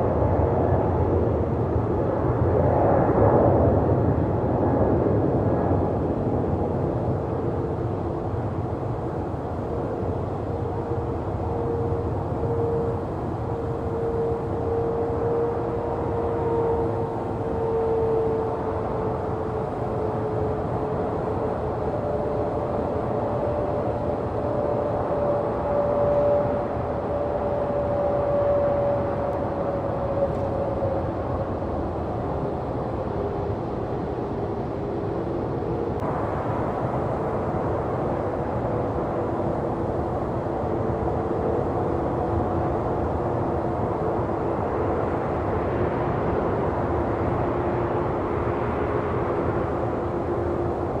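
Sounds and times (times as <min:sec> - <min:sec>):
jet engines whining: 0:06.0 - 0:51.0.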